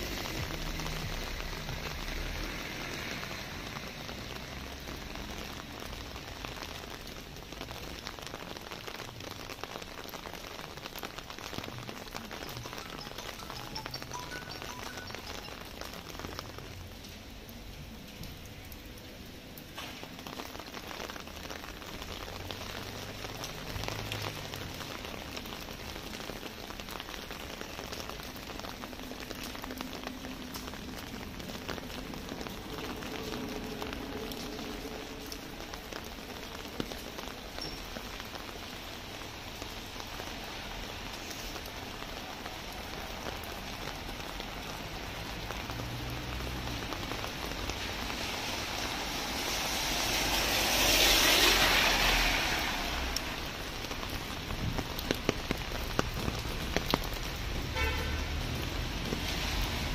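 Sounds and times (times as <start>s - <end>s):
car tyres hissing on wet road: 0.0s - 9.6s, 19.8s - 37.4s, 38.3s - 59.9s
light rain on wet street: 0.0s - 59.9s.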